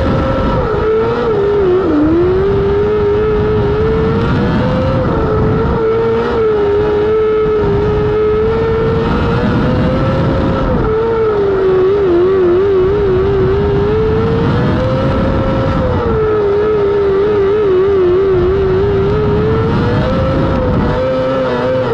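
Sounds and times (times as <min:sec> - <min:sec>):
race car engine at high revs: 0:00.0 - 0:21.9.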